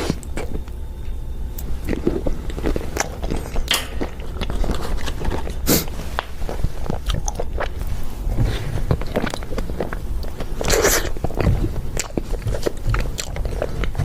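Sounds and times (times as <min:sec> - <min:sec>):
chewing crunchy peanuts: 0:01.6 - 0:14.0.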